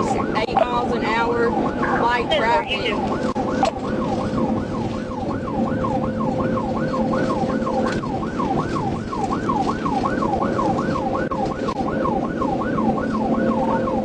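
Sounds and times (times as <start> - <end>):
car road noise at high speed: 0.0 - 14.0
police siren on yelp: 0.0 - 14.0.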